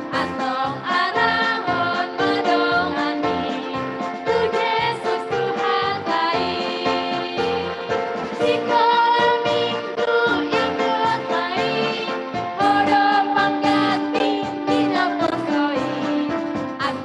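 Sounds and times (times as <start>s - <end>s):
children singing with instruments: 0.0s - 17.0s.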